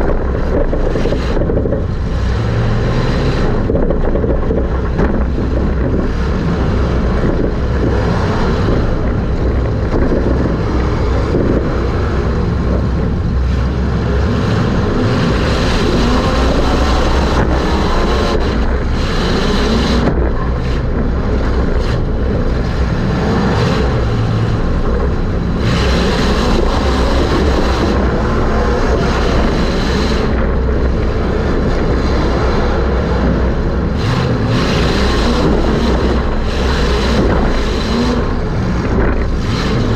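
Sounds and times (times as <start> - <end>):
race car engine: 0.0 - 39.9
wind noise on microphone: 0.0 - 39.9.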